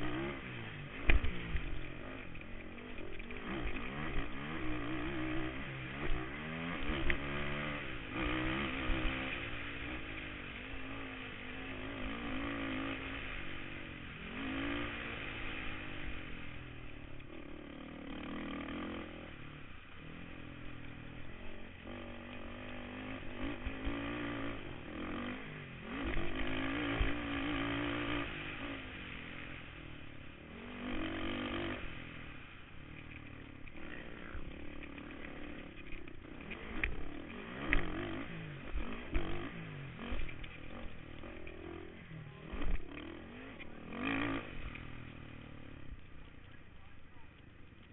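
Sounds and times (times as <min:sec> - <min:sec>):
quad engine revving: 0:00.0 - 0:47.0.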